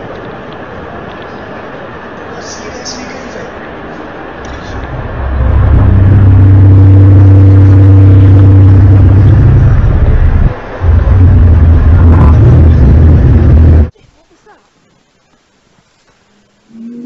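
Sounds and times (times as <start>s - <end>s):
loud low droning hum: 0.0s - 13.9s.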